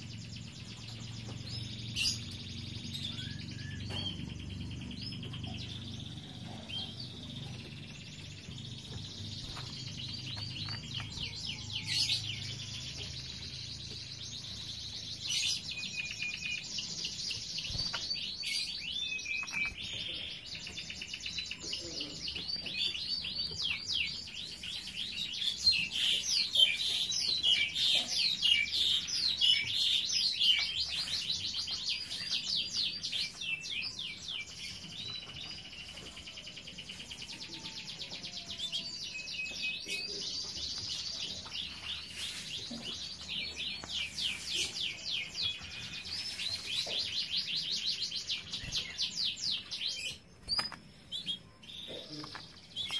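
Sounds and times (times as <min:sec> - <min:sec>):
canaries chirping and twittering: 0:00.0 - 0:52.9.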